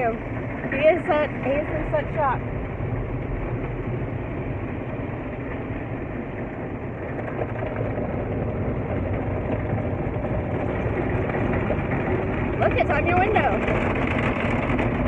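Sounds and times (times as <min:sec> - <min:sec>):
car wash water and machinery: 0:00.0 - 0:15.0
low rumble: 0:00.0 - 0:15.0.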